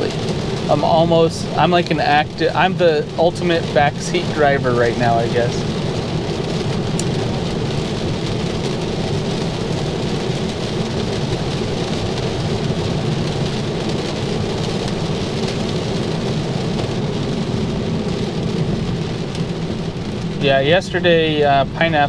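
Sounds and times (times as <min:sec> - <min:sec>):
car driving on wet road: 0:00.0 - 0:22.0
heavy rain on a car roof: 0:00.0 - 0:22.0.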